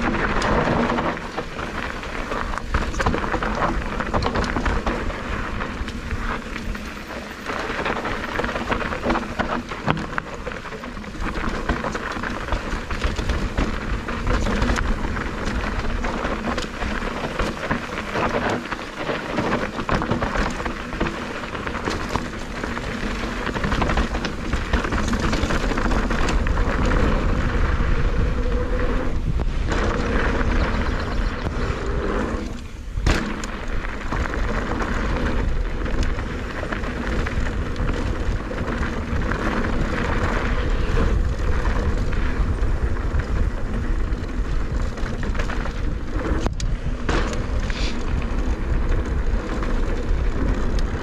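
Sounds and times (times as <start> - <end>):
bike rattles and knocks: 0.0 - 51.0
tyres crunching on dirt and gravel: 0.0 - 51.0
wind on microphone: 0.0 - 51.0.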